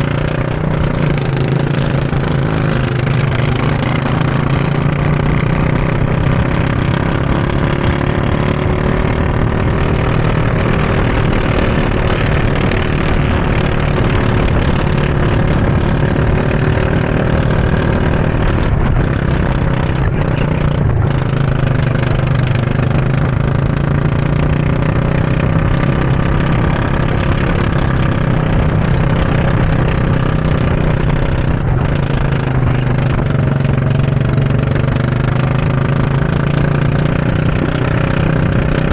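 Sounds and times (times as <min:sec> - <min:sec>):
go-kart engine running: 0:00.0 - 0:38.9.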